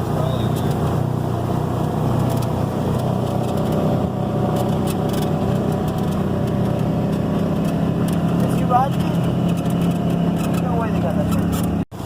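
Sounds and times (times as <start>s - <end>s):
utility vehicle engine running: 0.0s - 12.0s
light clicks and rattles: 1.8s - 11.8s.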